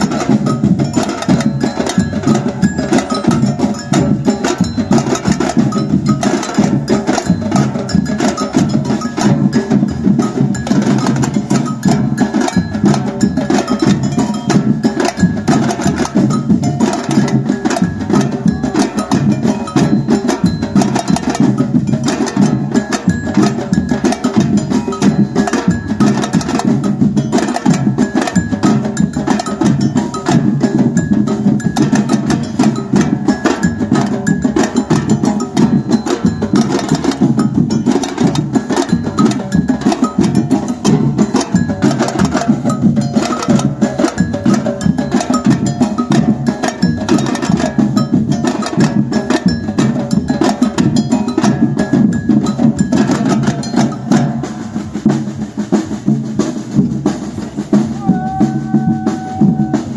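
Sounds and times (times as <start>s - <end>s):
samba percussion band: 0.0s - 59.9s.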